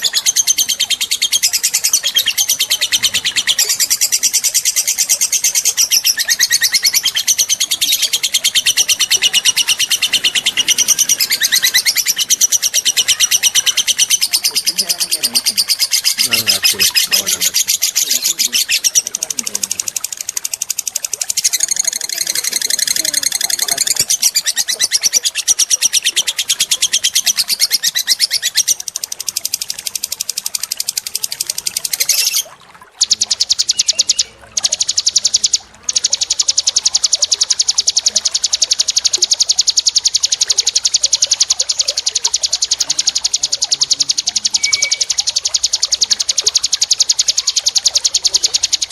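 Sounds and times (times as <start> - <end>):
songbird trilling: 0.0 - 48.9.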